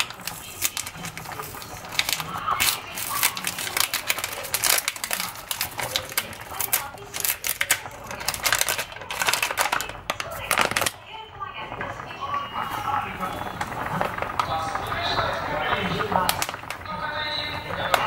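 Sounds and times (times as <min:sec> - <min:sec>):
paper bag crinkling: 0:00.0 - 0:18.0.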